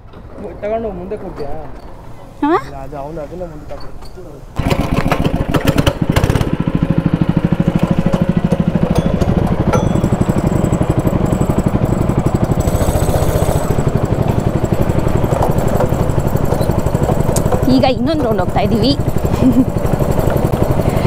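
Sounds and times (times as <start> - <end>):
go-kart engine puttering: 3.7 - 21.0.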